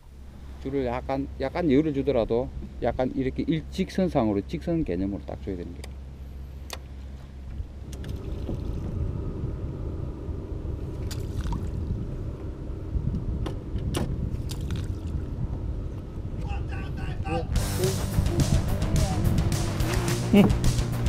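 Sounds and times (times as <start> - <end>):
boat engine rumble: 0.0 - 21.0.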